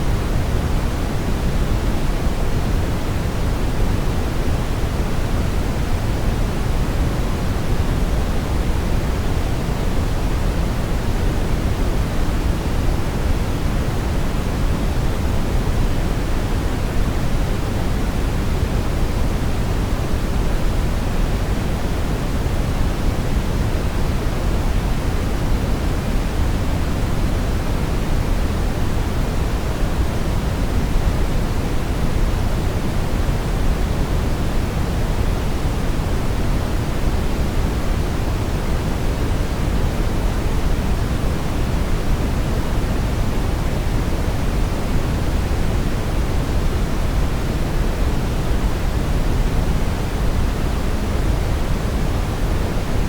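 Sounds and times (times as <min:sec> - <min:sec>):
brown noise hiss: 0:00.0 - 0:53.0.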